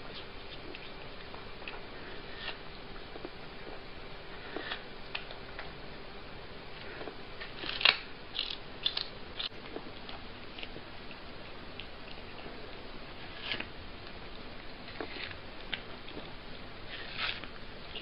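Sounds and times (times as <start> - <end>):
cat chewing watermelon: 0.0 - 6.0, 6.6 - 18.0.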